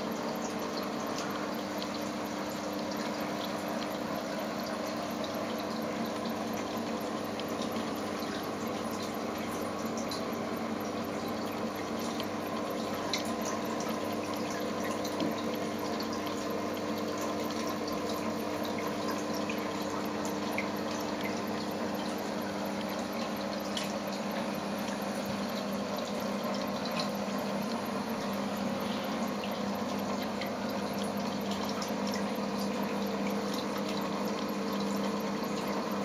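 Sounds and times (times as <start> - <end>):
low pump hum: 0.0 - 36.0
moving water: 0.0 - 36.0
small water drips: 0.0 - 36.0.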